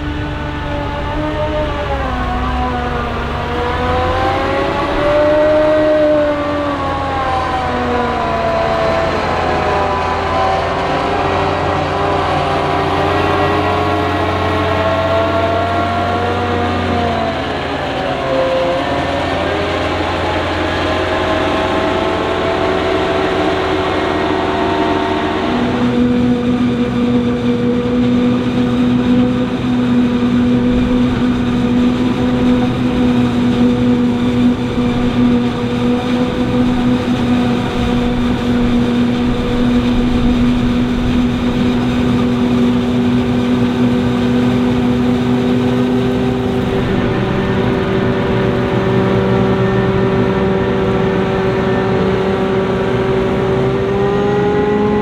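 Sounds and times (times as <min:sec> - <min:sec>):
diesel farm machinery engine: 0:00.0 - 0:55.0.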